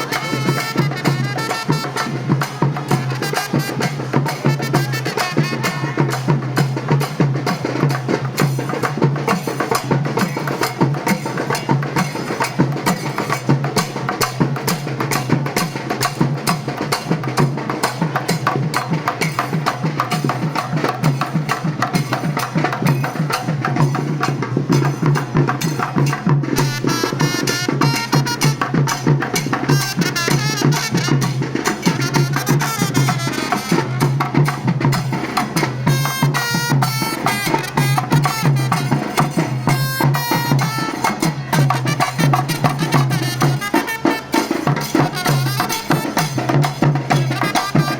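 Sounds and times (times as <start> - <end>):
hand drums beating fast rhythms: 0.0 - 47.9.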